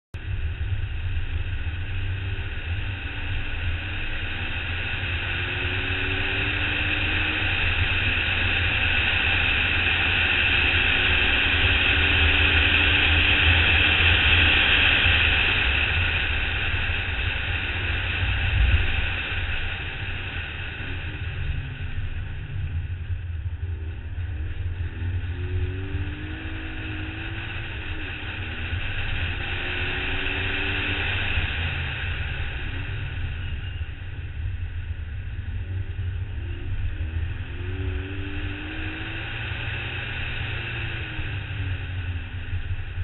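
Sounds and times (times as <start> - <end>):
faint car engine accelerating: 0.2 - 43.0.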